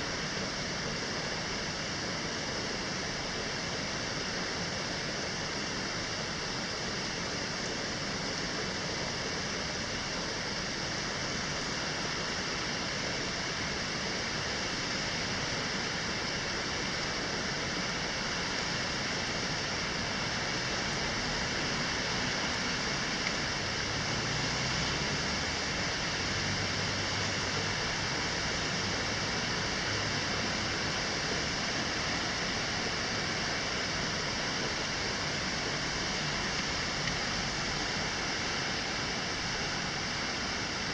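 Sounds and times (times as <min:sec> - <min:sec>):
rain with wind: 0:00.0 - 0:40.9.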